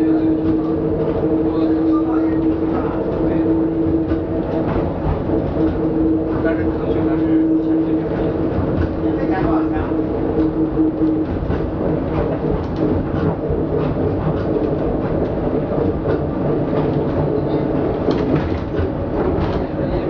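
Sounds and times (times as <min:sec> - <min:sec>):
motor and inverter hum: 0:00.0 - 0:20.0
tram cabin rumble: 0:00.0 - 0:20.0.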